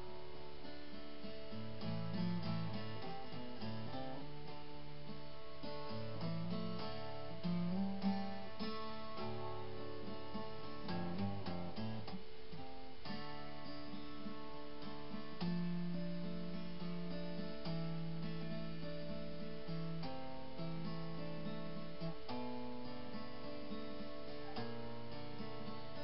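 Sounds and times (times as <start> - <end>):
guitar background music: 0.0 - 26.0.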